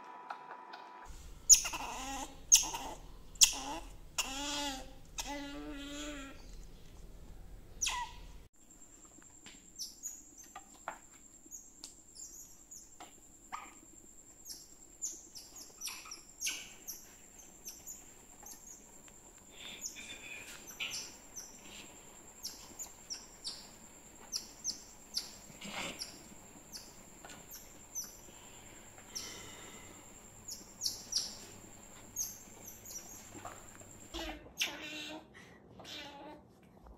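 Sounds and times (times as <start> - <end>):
otters chirping: 1.3 - 7.0, 7.7 - 8.5, 9.7 - 34.8.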